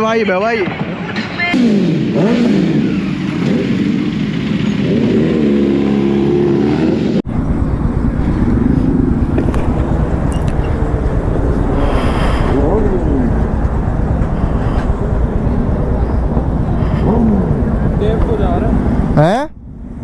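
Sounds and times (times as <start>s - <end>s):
motorcycle engine at speed: 0.8s - 20.0s.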